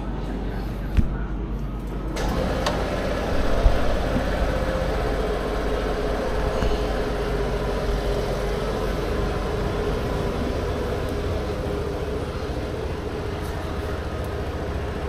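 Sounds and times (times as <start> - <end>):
scooter engine running at low revs: 2.2 - 15.0.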